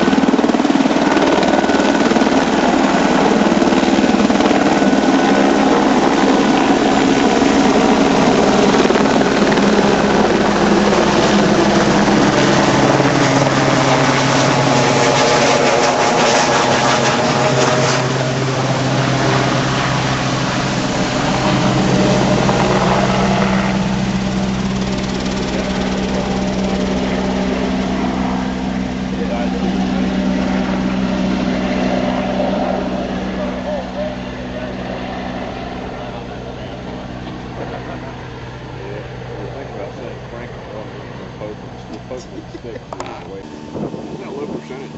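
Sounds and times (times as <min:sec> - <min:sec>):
helicopter flying over: 0:00.0 - 0:44.9
steady engine hum: 0:00.0 - 0:44.9.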